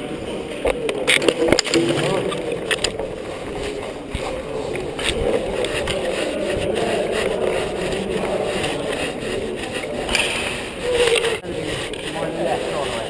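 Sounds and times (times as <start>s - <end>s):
microphone rubbing and rumbling: 0.4s - 13.0s
clothing brushing microphone: 1.0s - 13.0s.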